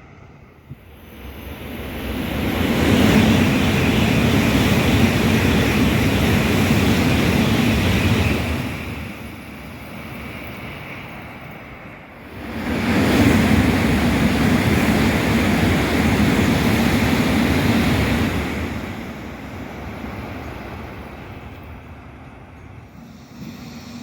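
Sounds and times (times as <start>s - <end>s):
bullet train passing: 0.0s - 24.0s.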